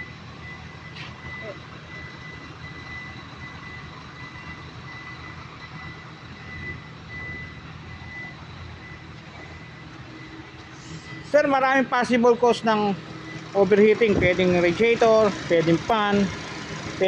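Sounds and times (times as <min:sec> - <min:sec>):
car engine idling: 0:00.0 - 0:17.0
high engine whine: 0:00.0 - 0:17.0.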